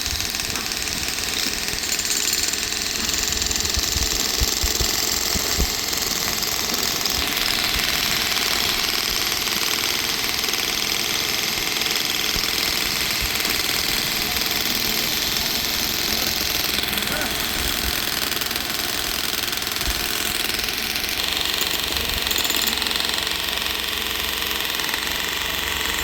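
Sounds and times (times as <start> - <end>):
construction machinery running: 0.0 - 26.0.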